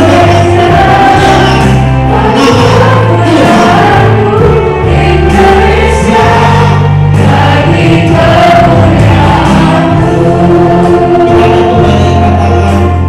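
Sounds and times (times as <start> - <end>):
choir singing worship song: 0.0 - 13.0
instrumental accompaniment: 0.0 - 13.0.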